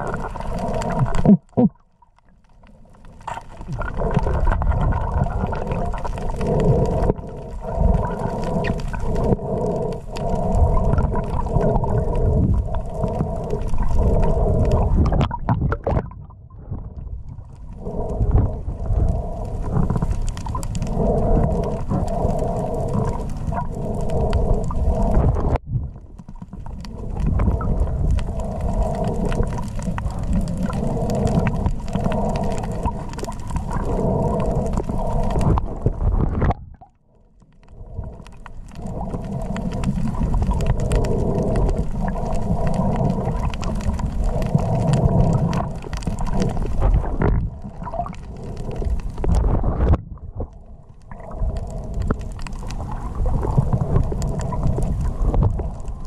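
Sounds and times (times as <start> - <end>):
muffled underwater rumble: 0.0 - 56.0.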